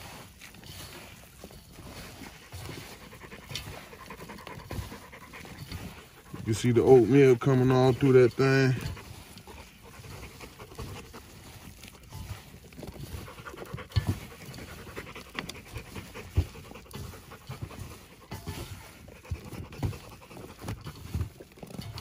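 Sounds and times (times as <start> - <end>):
hands squelching raw meat: 0.0 - 22.0
dog panting: 1.7 - 22.0.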